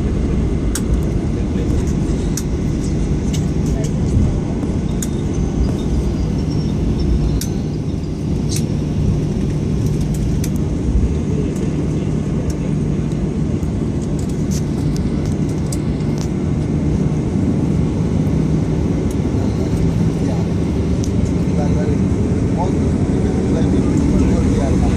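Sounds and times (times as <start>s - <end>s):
airliner engine hum in cabin: 0.0s - 24.9s.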